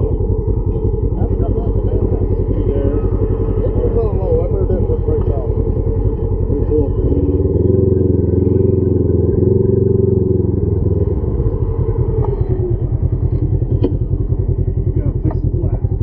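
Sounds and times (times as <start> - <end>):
utility vehicle engine running: 0.0 - 16.0.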